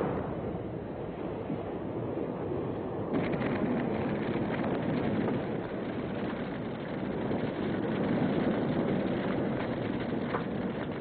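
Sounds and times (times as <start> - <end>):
sea water and wind rushing: 0.0 - 11.0.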